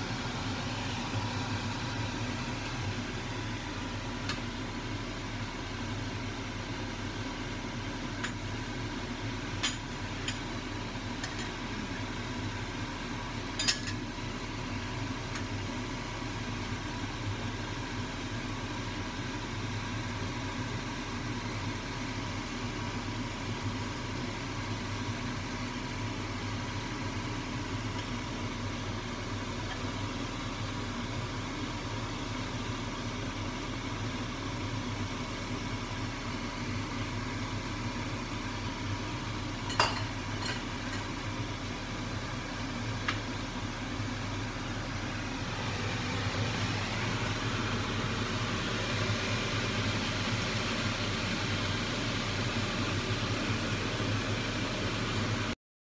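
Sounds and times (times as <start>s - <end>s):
mechanical hum: 0.0s - 55.6s.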